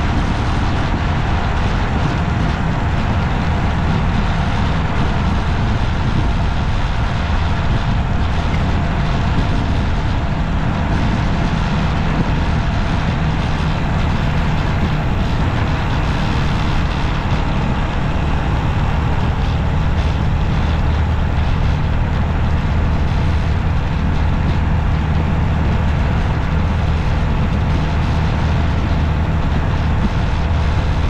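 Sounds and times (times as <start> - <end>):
road noise from moving vehicle: 0.0 - 31.0.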